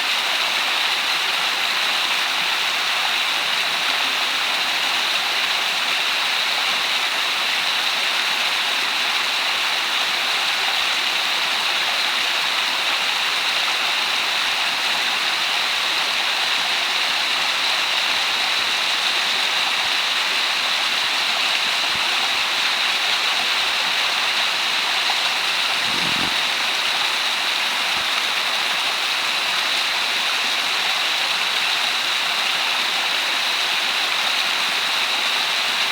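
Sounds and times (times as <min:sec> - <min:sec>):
waterfall rushing over rock: 0:00.0 - 0:35.9.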